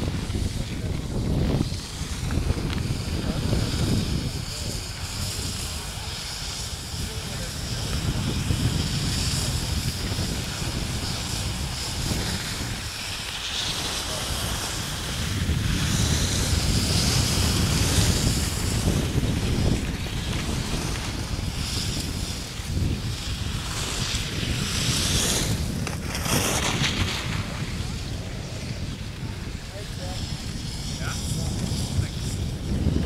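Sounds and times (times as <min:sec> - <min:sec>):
skis sliding on snow: 0:00.0 - 0:33.0
wind buffeting microphone: 0:00.0 - 0:33.0.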